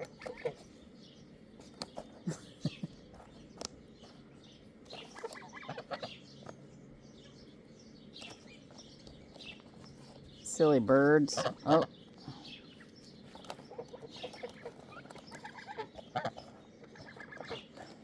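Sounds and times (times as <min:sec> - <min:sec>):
beaks pecking on rubber shoes: 0:00.0 - 0:18.0.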